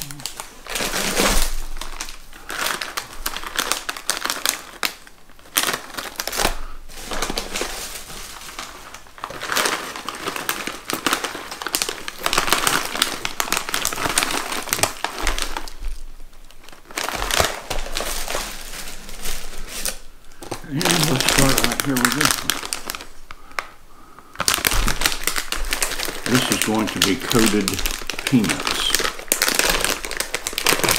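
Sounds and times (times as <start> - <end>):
plastic snack bags crinkling: 0.0 - 30.9.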